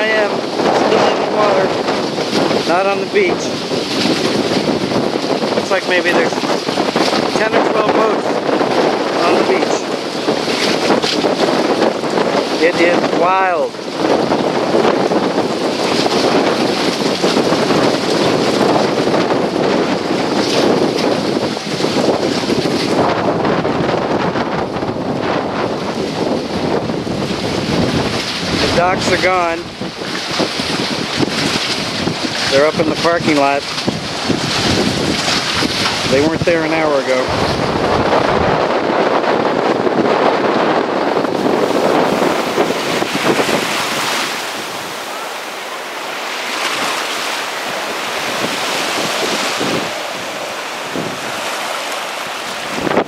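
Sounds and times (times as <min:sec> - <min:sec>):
surf breaking on shore: 0:00.0 - 0:53.0
wind buffeting microphone: 0:00.0 - 0:53.0.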